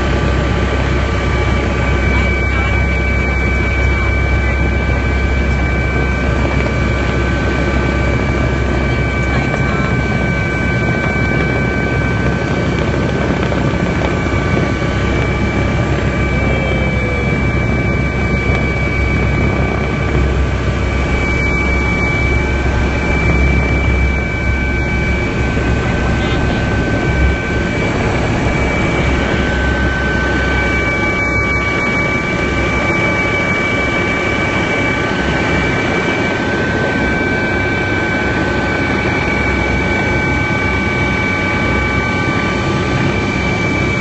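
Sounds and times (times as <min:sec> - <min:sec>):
helicopter rotor and engine: 0:00.0 - 0:44.0
thin steady whine tones: 0:00.0 - 0:44.0.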